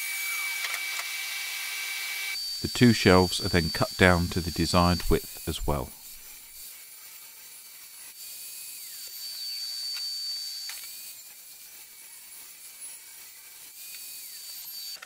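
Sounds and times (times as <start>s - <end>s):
table saw cutting wood: 0.0s - 15.0s.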